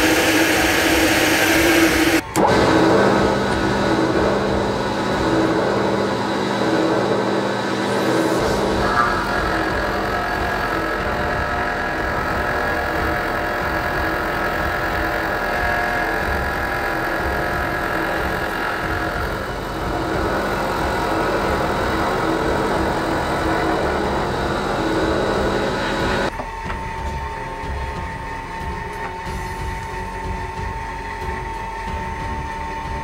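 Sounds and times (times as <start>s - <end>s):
milling machine cutting metal: 0.0s - 33.0s
steady machine hum: 0.0s - 33.0s.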